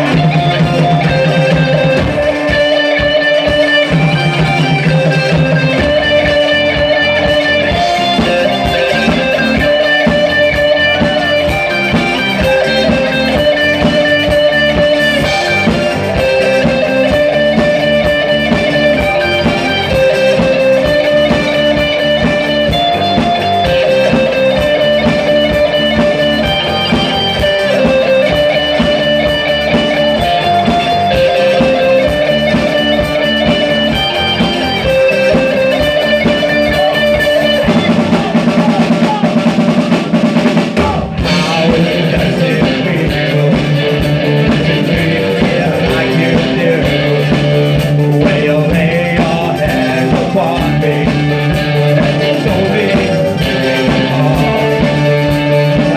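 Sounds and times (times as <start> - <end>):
bass guitar: 0.0 - 55.9
drums beating: 0.0 - 55.9
electric guitar riff: 0.0 - 55.9.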